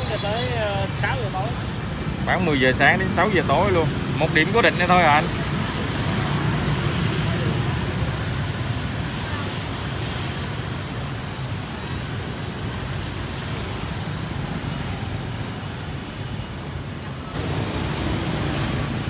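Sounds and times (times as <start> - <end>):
motorbike engines: 0.0 - 19.0
tyres on road: 0.0 - 19.0.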